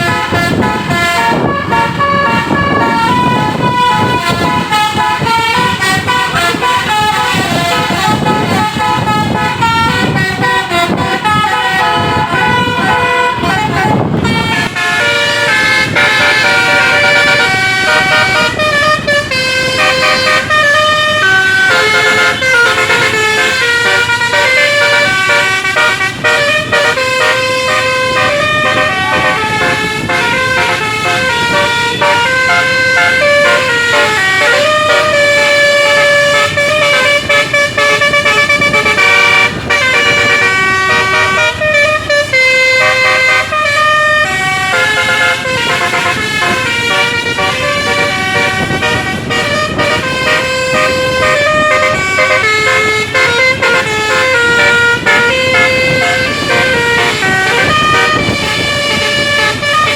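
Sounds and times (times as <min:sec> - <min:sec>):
musical bus horn melody: 0:00.0 - 0:59.9.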